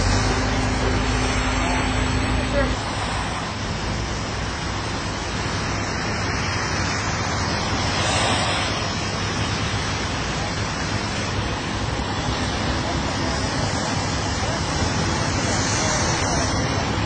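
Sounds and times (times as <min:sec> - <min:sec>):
low engine hum: 0:00.0 - 0:17.0
rushing road noise: 0:00.0 - 0:17.0.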